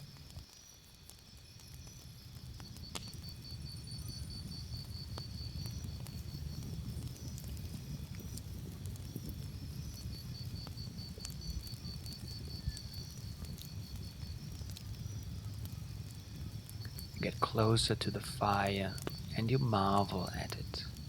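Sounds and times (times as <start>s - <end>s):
campfire crackling and popping: 0.0s - 21.0s
cricket chirping: 0.0s - 21.0s.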